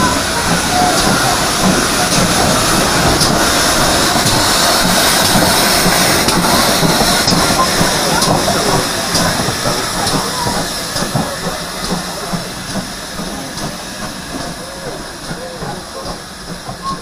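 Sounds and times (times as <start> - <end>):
train rumble and hiss: 0.0 - 17.0
wheels clicking over rail joints: 0.0 - 17.0.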